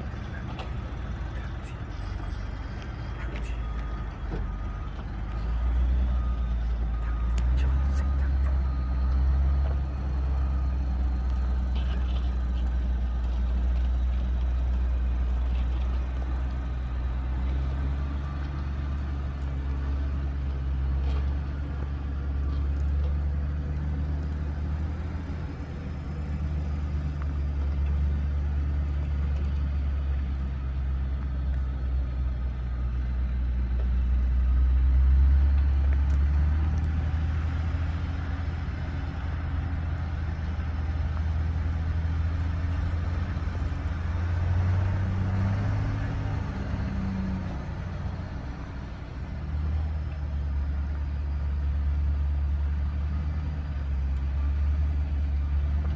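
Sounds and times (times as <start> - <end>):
truck engine droning: 0.0 - 55.9.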